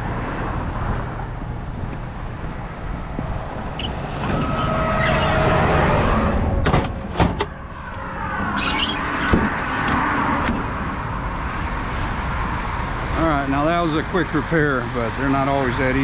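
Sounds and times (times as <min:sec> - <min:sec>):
highway traffic passing: 0:00.0 - 0:16.0.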